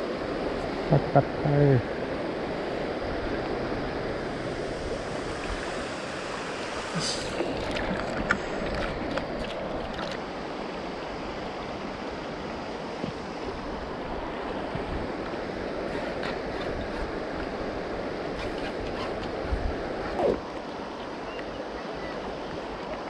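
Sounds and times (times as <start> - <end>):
river water flowing over rocks: 0.0 - 23.0.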